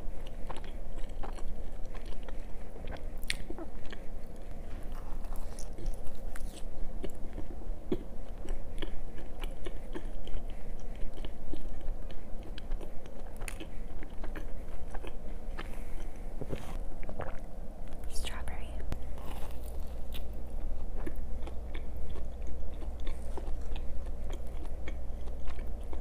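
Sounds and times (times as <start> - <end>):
chewing with mouth clicks: 0.1 - 18.1, 19.2 - 26.0.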